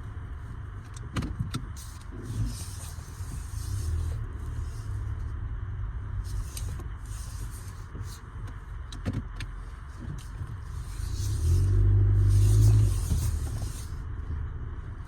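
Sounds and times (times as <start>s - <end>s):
car mechanical hum: 0.0s - 15.0s.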